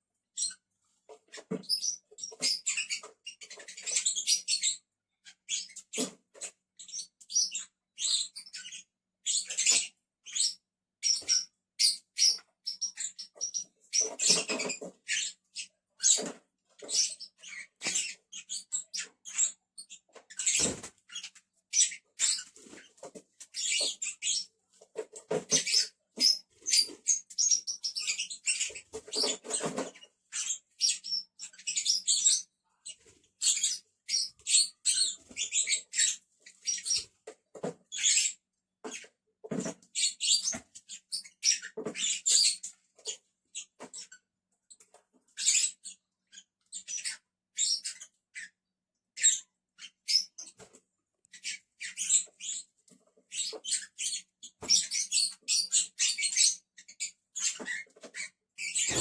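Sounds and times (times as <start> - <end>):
lovebirds chattering: 0.4 - 44.2, 51.3 - 59.0.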